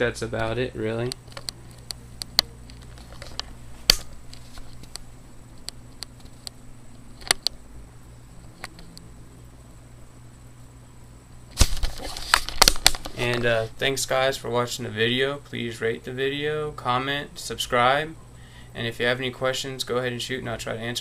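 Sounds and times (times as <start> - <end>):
computer cooling fans humming: 0.0 - 21.0.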